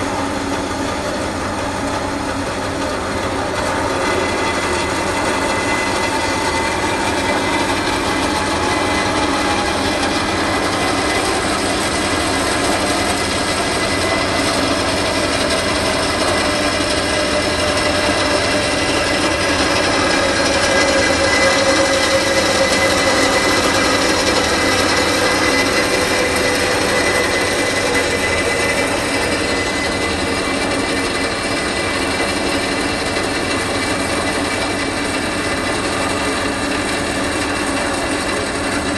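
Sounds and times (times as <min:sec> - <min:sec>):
band saw cutting steel: 0:00.0 - 0:38.9.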